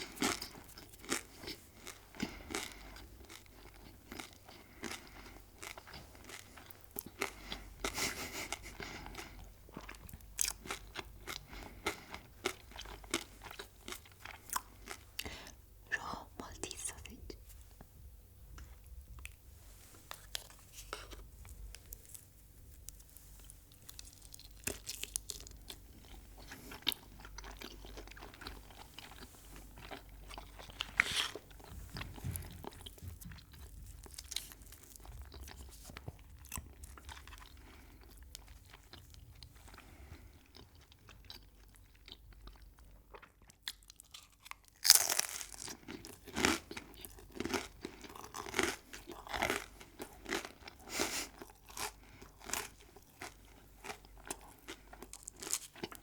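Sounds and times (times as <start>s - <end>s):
chewing crunchy food: 0.0s - 15.6s, 18.6s - 56.0s.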